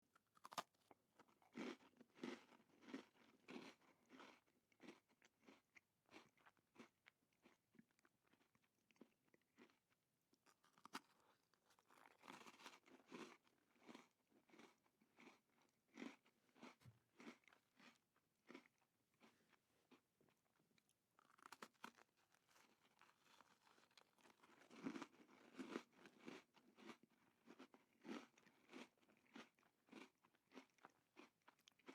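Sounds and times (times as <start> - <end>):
person chewing crunchy cookie: 0.1 - 31.9.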